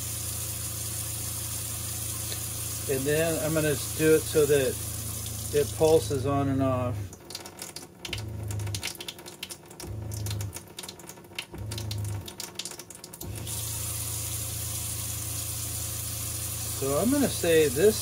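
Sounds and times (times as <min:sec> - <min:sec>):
water pump humming: 0:00.0 - 0:18.0
water trickling into sink: 0:00.2 - 0:18.0.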